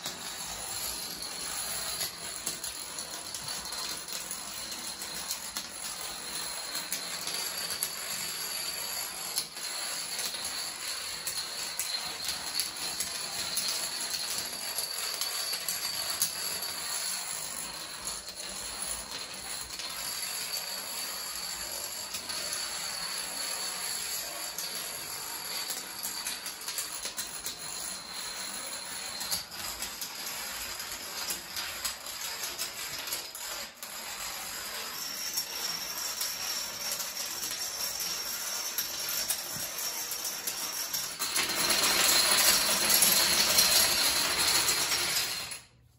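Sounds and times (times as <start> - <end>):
dominoes clattering: 0.0 - 45.9.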